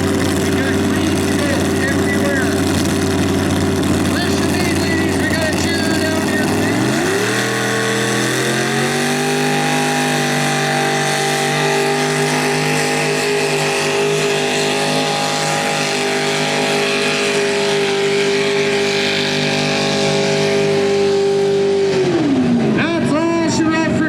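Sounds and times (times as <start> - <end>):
engine at high revs: 0.0 - 24.0.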